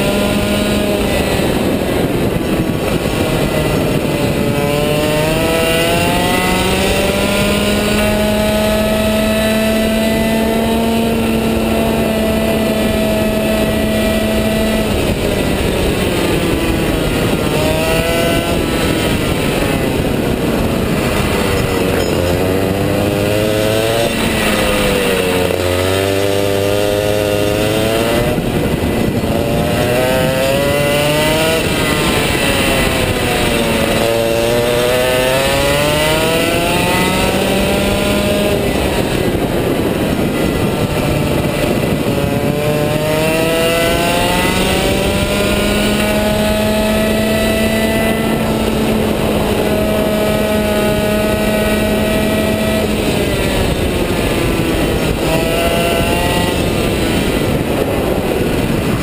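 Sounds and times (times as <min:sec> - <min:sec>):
kart engine racing: 0:00.0 - 0:59.0.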